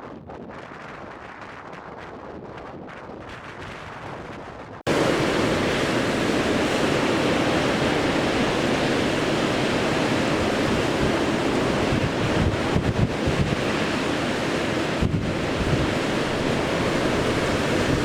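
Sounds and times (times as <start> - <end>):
blizzard wind buffeting microphone: 0.0 - 18.0.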